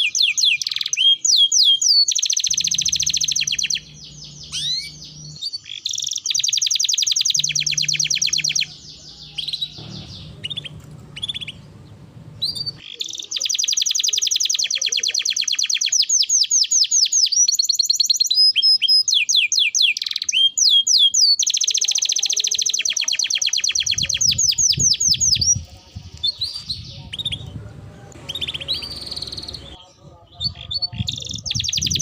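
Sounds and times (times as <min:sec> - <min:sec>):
canary singing trills: 0:00.0 - 0:32.0.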